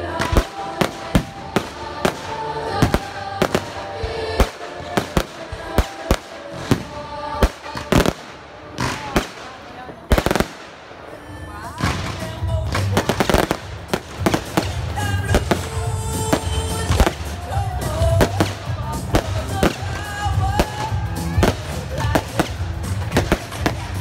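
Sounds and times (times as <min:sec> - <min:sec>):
fireworks bursting: 0:00.0 - 0:24.0
music: 0:00.0 - 0:24.0.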